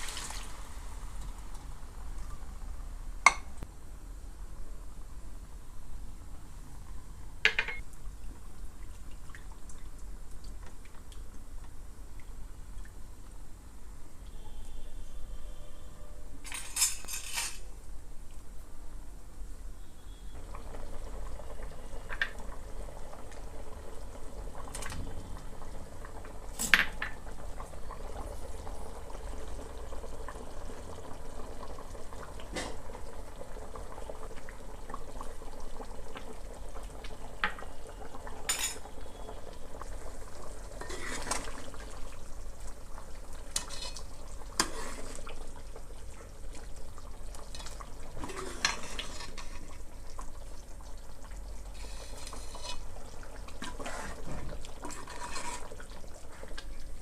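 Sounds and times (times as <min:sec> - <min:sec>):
low hiss of cooking: 0:00.0 - 0:57.0.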